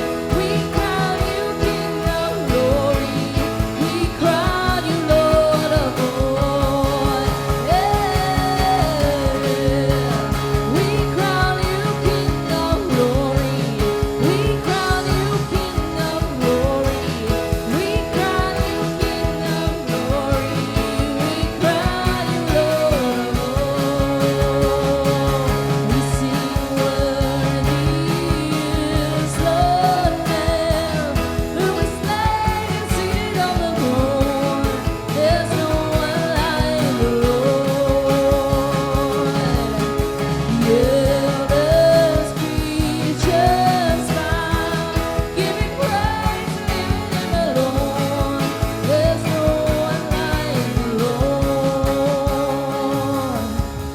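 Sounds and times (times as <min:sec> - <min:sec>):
person singing: 0:00.0 - 0:53.9
steady drum beat: 0:00.0 - 0:53.9
sustained bass: 0:00.0 - 0:53.9
worship band playing: 0:00.0 - 0:53.9.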